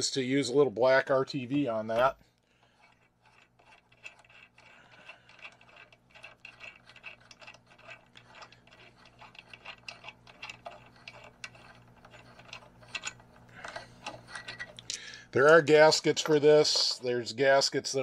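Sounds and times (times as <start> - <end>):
small steel parts clicking: 1.9 - 17.1.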